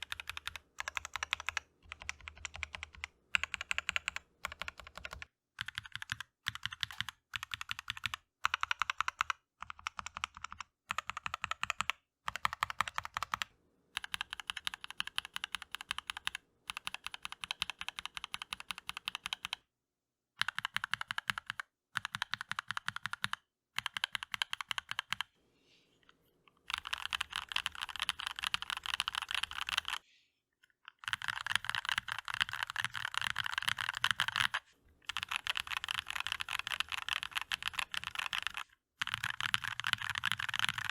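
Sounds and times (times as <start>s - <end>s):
fast typing on mechanical keyboard: 0.0s - 19.6s, 20.4s - 25.3s, 26.6s - 30.0s, 30.9s - 40.9s.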